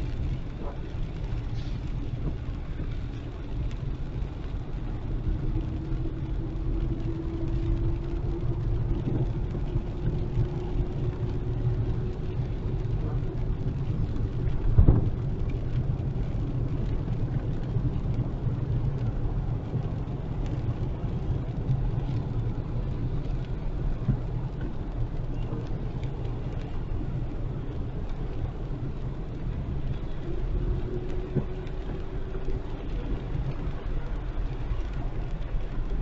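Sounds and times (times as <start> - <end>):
rain hissing: 0.0 - 36.0
road and engine rumble: 0.0 - 36.0.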